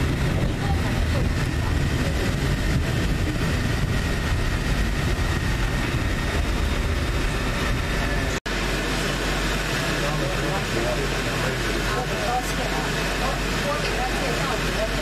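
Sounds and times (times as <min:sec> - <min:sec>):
steady low hum: 0:00.0 - 0:15.0
tram cabin rumble: 0:00.0 - 0:15.0.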